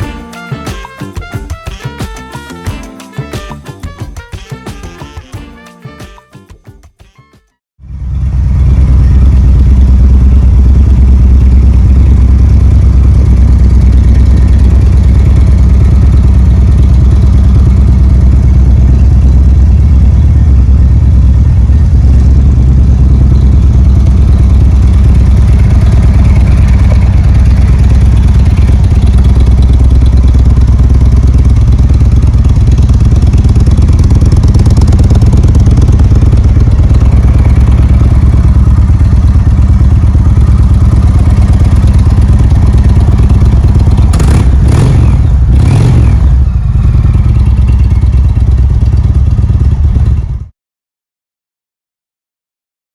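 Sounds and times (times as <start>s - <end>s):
motorcycle engine idling: 7.8s - 50.5s.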